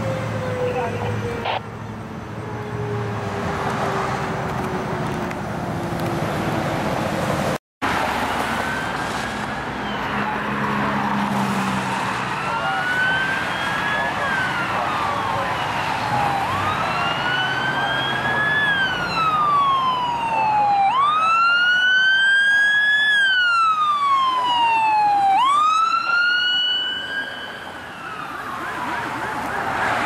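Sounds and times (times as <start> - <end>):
emergency vehicle siren wailing: 0.0 - 5.4, 7.9 - 30.0.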